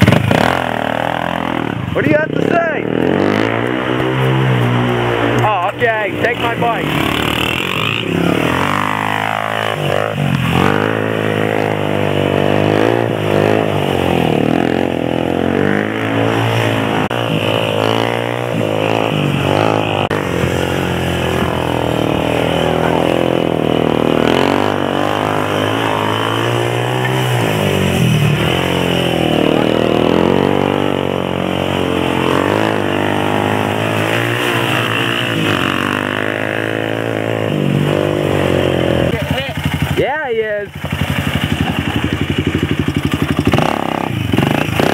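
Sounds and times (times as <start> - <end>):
off-road engine revving: 0.0 - 44.9.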